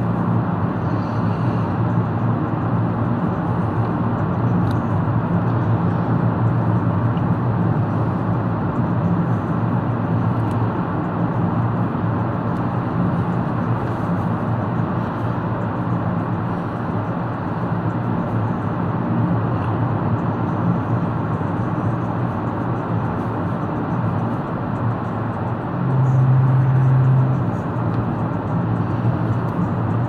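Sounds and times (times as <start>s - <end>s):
car road and engine drone: 0.0s - 30.0s.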